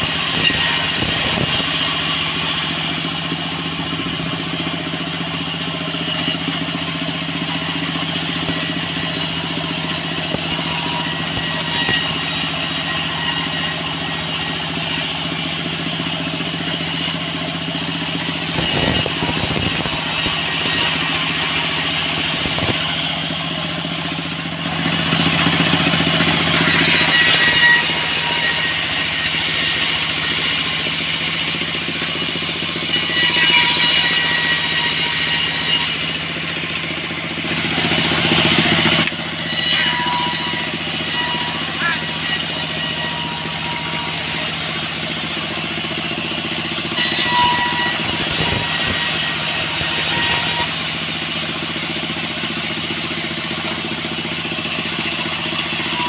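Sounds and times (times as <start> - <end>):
sawmill cutting wood: 0.0 - 56.0.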